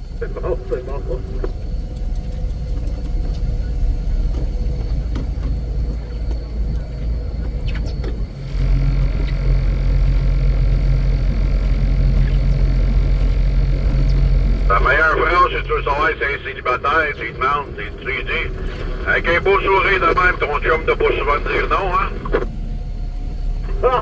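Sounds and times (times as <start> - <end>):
heavy vehicle engine rumbling: 0.0 - 24.0
steady low hum: 0.0 - 24.0.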